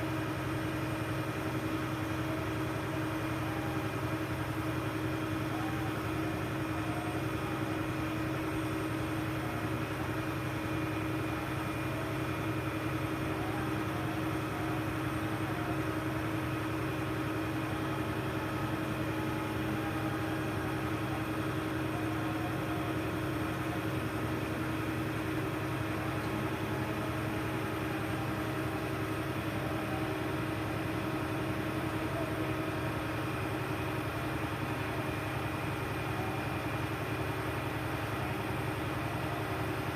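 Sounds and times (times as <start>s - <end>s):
crane engine humming: 0.0s - 39.9s.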